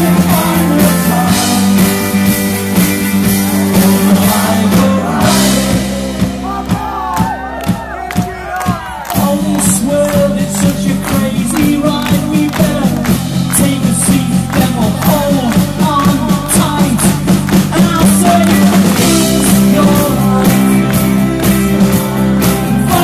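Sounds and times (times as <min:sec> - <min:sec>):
bass guitar: 0:00.0 - 0:23.0
drum kit: 0:00.0 - 0:23.0
electric guitars: 0:00.0 - 0:23.0.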